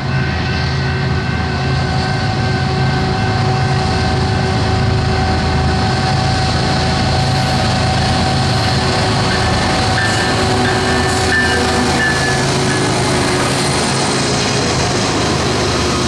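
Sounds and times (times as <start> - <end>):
diesel locomotive engines droning: 0.0 - 16.0
high whine: 0.0 - 16.0
train wheels rolling on rail: 0.0 - 16.0.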